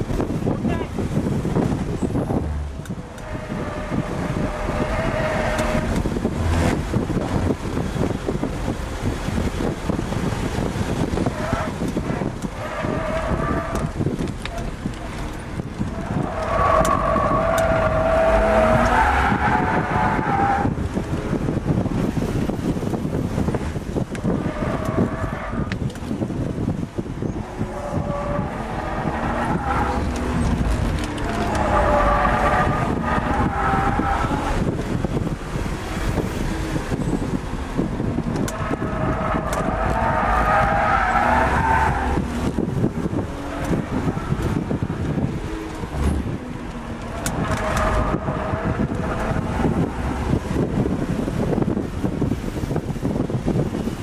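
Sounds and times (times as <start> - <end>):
car engine working hard: 0.0 - 54.0
road and wind noise: 0.0 - 54.0.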